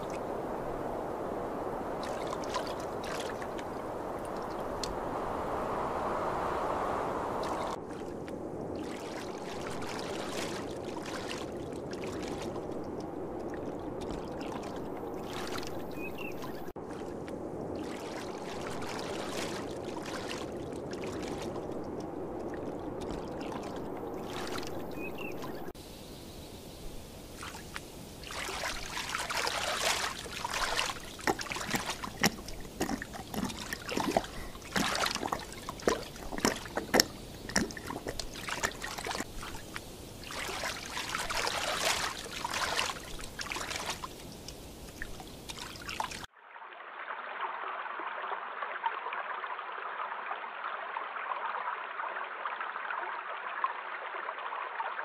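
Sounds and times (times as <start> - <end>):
water splashing and lapping: 0.0 - 25.9, 26.8 - 55.0
stream flowing: 0.0 - 55.0.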